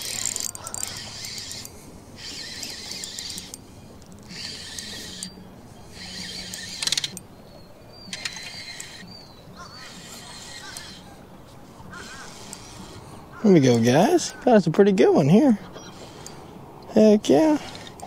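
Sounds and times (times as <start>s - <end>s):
fishing reel gears whirring: 0.0s - 14.4s, 15.7s - 18.0s.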